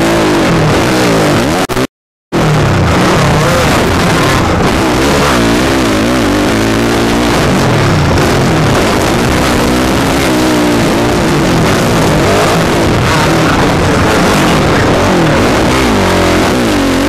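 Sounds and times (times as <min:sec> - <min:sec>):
constant rushing noise: 0:00.0 - 0:17.0
dirt bike engine revving: 0:00.0 - 0:17.0.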